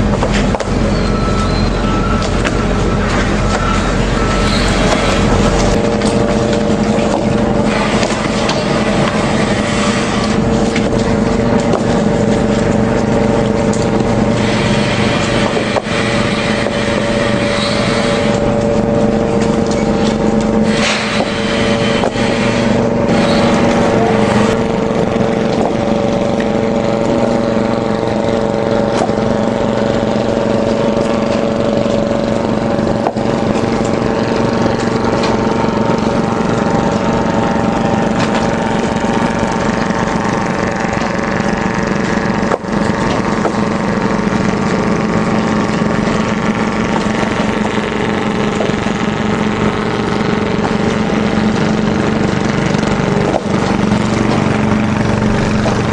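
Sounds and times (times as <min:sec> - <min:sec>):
engine humming steadily: 0:00.0 - 0:55.9.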